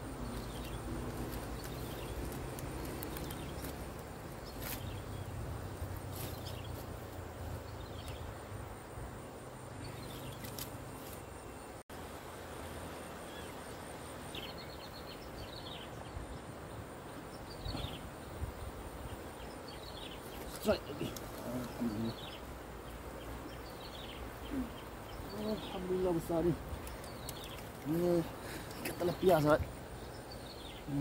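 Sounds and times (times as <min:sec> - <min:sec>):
small birds chirping: 0:00.0 - 0:11.8, 0:13.1 - 0:31.0.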